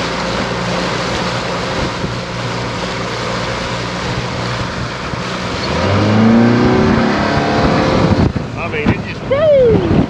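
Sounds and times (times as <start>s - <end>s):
outboard motor running: 0.0s - 10.0s
rush of wind and water: 0.0s - 10.0s.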